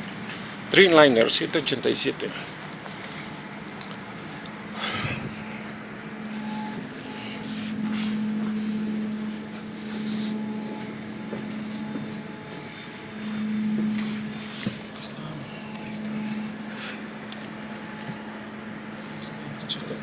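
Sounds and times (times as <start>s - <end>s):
airliner droning hum: 0.0s - 20.0s.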